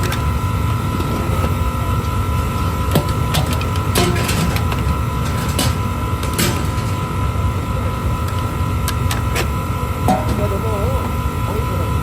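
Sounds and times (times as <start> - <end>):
workshop machinery running: 0.0 - 12.0.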